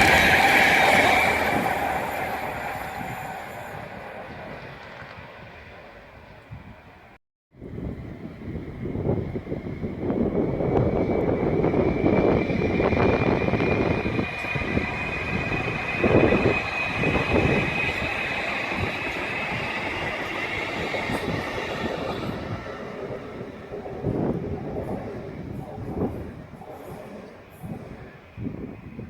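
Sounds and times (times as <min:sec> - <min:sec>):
train passing on track: 0:00.0 - 0:29.0.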